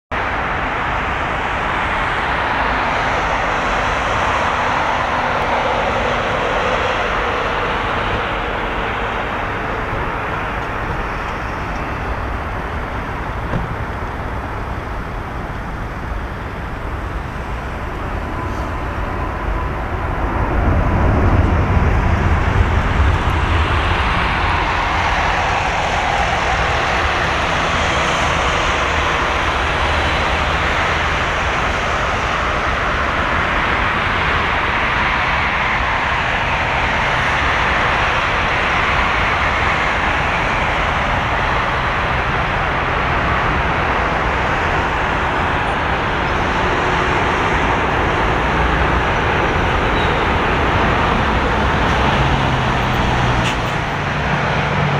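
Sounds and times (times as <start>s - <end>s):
jet engine rush: 0.1s - 54.9s.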